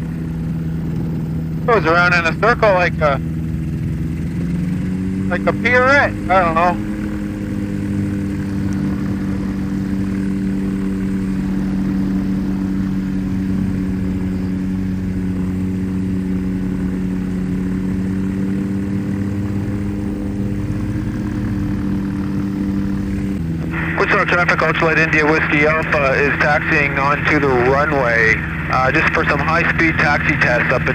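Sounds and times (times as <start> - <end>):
ultralight engine and propeller running: 0.0 - 30.9.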